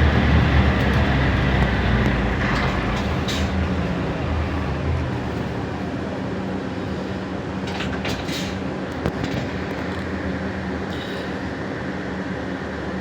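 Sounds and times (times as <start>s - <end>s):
bus hum with road noise: 0.0s - 13.0s.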